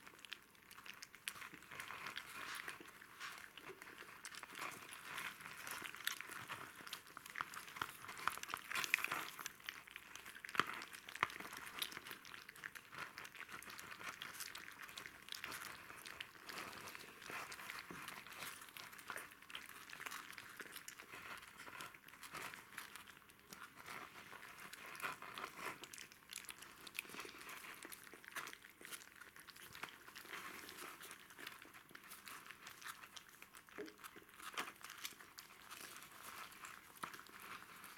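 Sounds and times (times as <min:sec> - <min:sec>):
puppies eating with clicks and smacks: 0:00.0 - 0:37.9.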